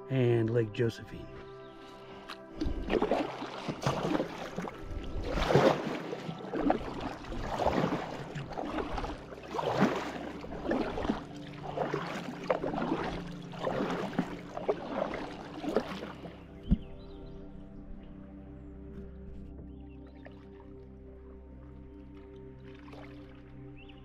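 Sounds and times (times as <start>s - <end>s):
water dripping and swirling: 1.2s - 24.0s
paddle splashing in water: 1.3s - 17.6s, 18.9s - 21.0s, 21.6s - 23.6s.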